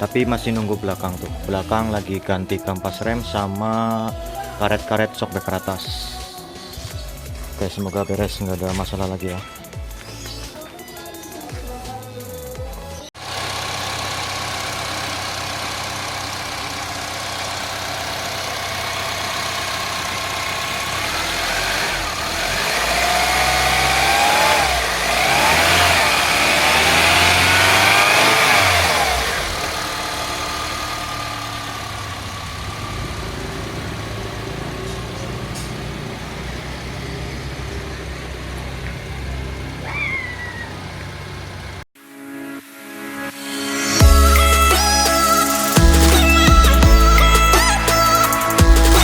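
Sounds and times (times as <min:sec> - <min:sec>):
car engine idling and revving: 0:00.0 - 0:04.9, 0:06.0 - 0:09.0, 0:13.1 - 0:41.9, 0:44.0 - 0:49.0.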